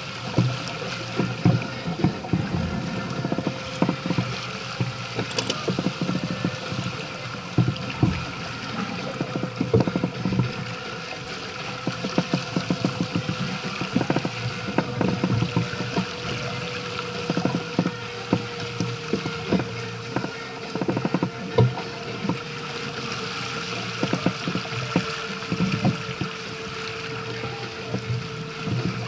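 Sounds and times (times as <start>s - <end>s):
water washing along hull: 0.0s - 29.0s
waves thumping and slapping hull: 0.0s - 29.0s.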